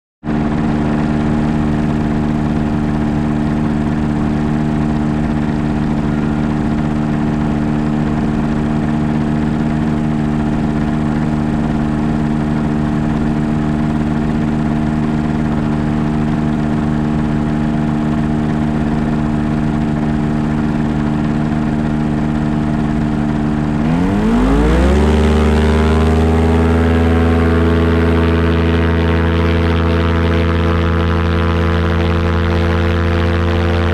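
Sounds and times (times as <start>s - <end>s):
car engine idling: 0.3s - 28.6s.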